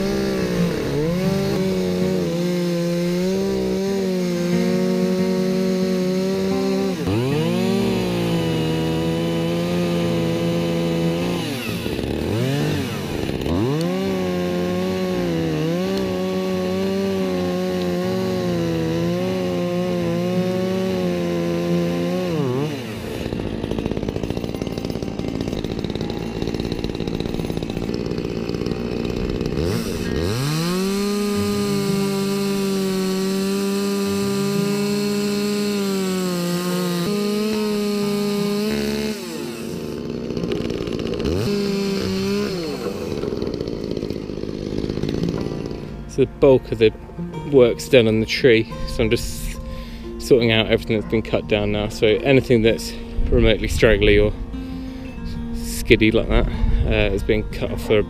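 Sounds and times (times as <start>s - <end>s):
chainsaw cutting branches: 0.0s - 58.0s.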